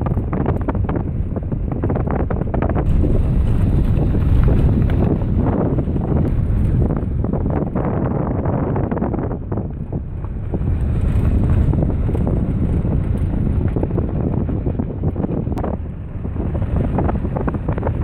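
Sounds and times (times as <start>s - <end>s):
vehicle rumble on dirt road: 0.0s - 18.0s
wind buffeting microphone: 0.0s - 18.0s.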